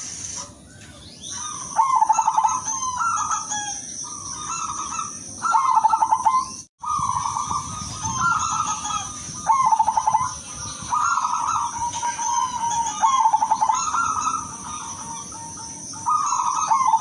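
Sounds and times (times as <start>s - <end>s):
dove cooing: 1.3s - 17.0s.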